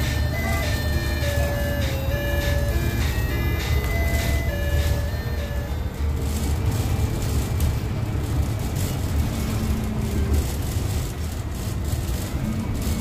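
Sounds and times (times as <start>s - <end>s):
bus interior rumble: 0.0s - 13.0s.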